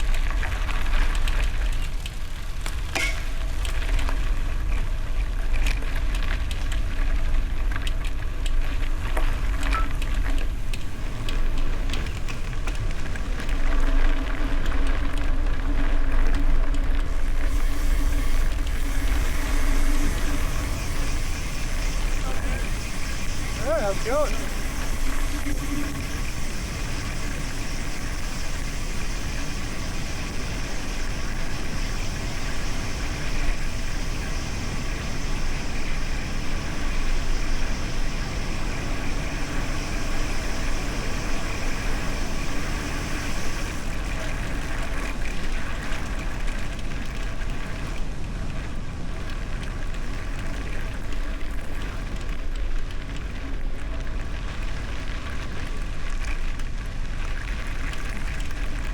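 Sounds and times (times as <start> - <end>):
bicycle tyres crunching over gravel: 0.0 - 58.9
wind rumbling on microphone: 0.0 - 58.9.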